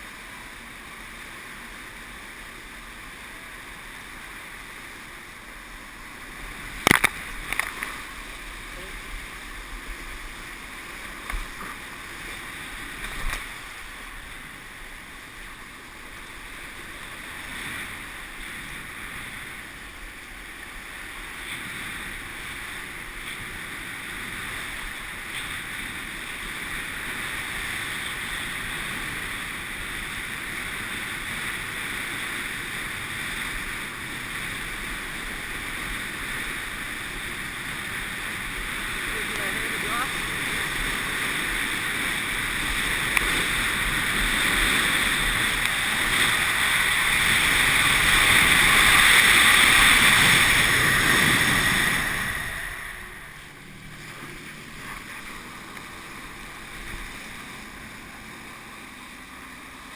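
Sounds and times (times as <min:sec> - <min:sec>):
rush of wind and spray: 0:00.0 - 0:59.9
sharp knocks crossing wake: 0:06.5 - 0:14.7, 0:15.3 - 0:59.9.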